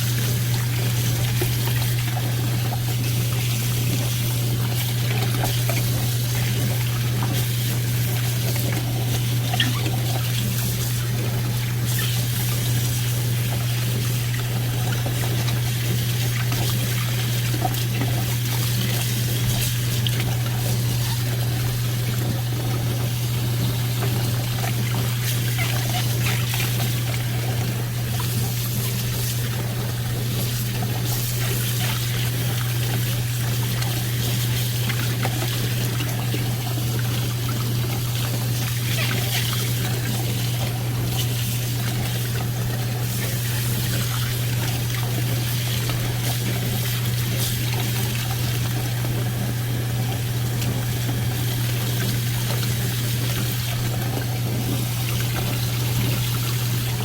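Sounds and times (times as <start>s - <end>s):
water running from a tap: 0.0s - 57.0s.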